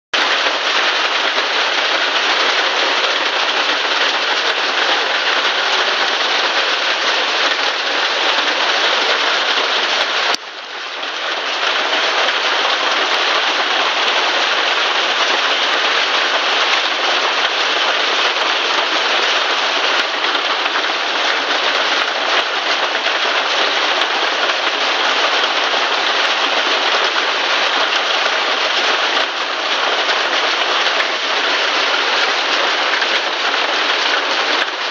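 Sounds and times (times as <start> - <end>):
heavy rain and hail hissing: 0.2 - 34.9.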